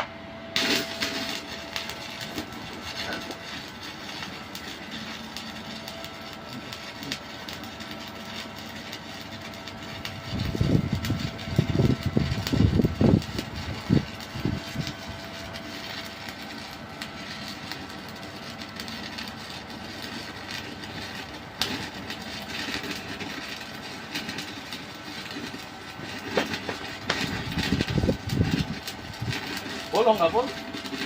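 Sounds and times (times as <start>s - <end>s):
sharp welding pops: 0.0s - 31.0s
welding arc crackling: 0.5s - 31.0s.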